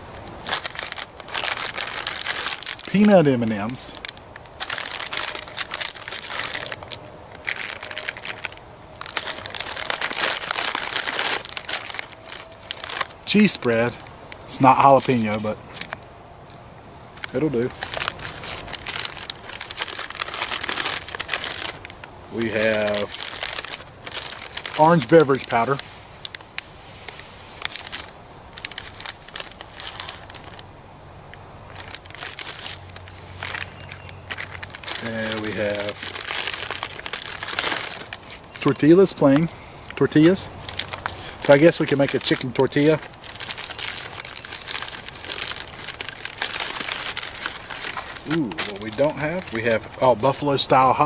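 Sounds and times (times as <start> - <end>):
plastic packets crinkling: 0.0 - 16.0, 17.1 - 30.7, 31.7 - 51.0.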